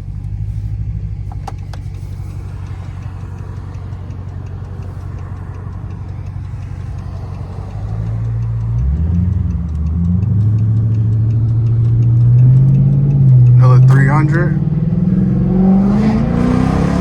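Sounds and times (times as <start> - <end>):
car engine idling and revving: 0.0 - 17.0
light even ticking: 0.0 - 17.0.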